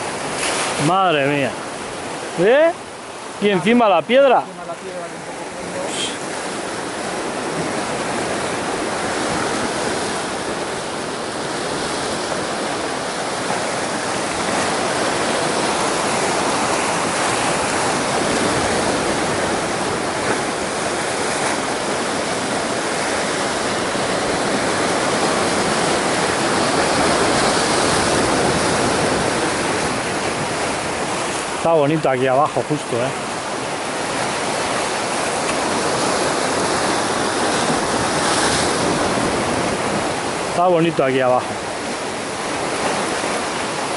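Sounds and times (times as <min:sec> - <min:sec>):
surf breaking against rocks: 0:00.0 - 0:43.9.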